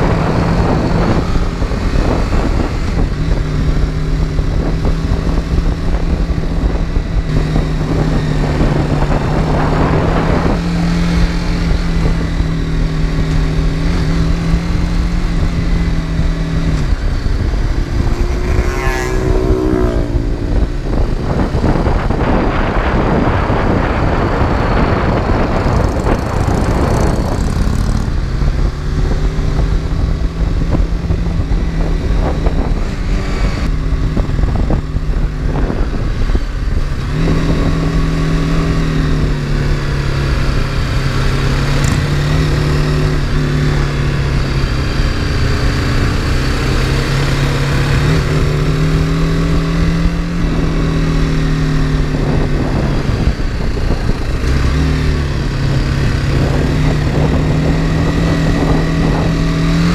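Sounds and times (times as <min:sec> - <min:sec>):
motorcycle engine cruising: 0:00.0 - 0:59.9
wind noise: 0:00.0 - 0:59.9.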